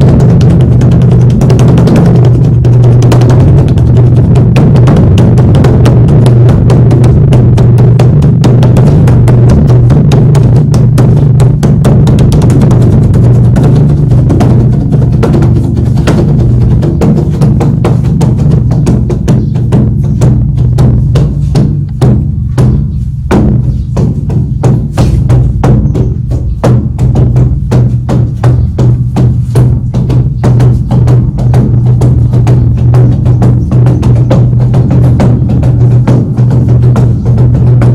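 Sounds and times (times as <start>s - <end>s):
drum beaten fast: 0.0s - 37.9s.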